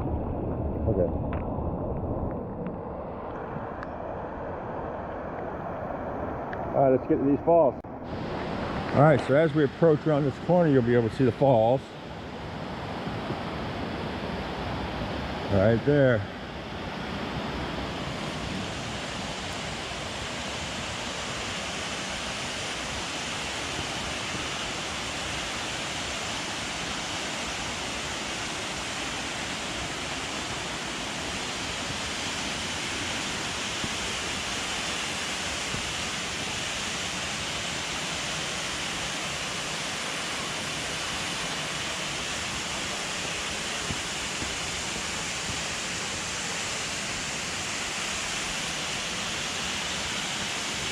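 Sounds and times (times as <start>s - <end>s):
waterfall rushing: 5.8s - 50.9s.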